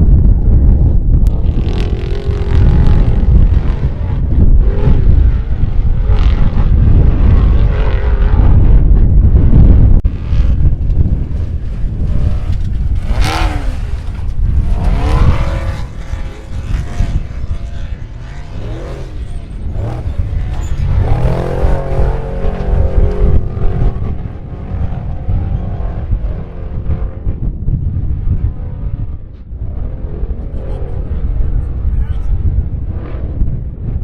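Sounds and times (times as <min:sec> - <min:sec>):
heavy low rumble: 0:00.0 - 0:34.0
race vehicle engines revving: 0:00.1 - 0:34.0.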